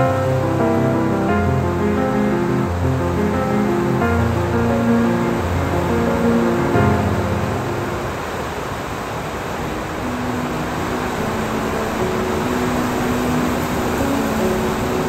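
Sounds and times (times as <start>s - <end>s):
soft low music notes: 0.0s - 8.6s, 9.8s - 15.0s
steady rain: 0.0s - 15.0s.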